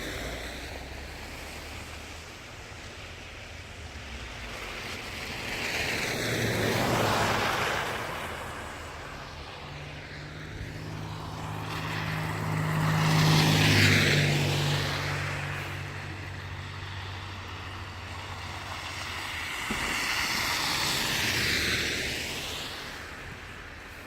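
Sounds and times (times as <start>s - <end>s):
vehicle engine hum: 0.0s - 24.0s.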